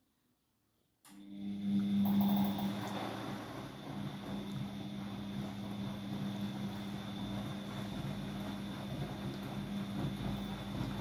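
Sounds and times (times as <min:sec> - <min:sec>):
washing machine spinning: 0:01.2 - 0:11.0.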